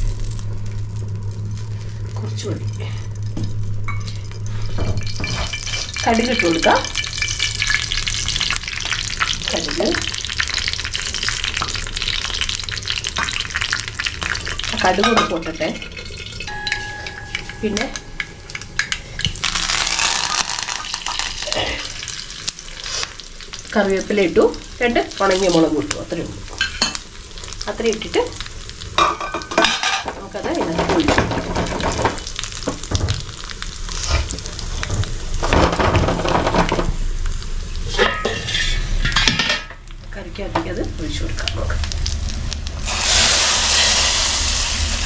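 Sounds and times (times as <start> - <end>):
leaves sizzling in hot oil: 0.0 - 45.0.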